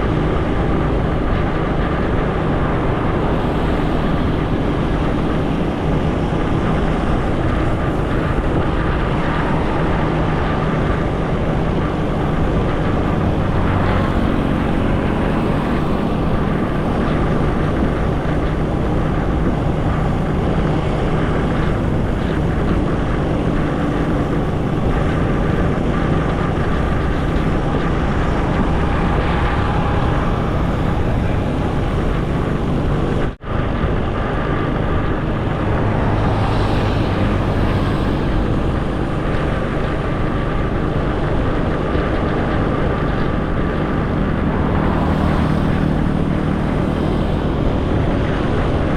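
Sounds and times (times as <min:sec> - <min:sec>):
motorcycle engine: 0:00.0 - 0:48.9
wind buffeting microphone: 0:00.0 - 0:48.9.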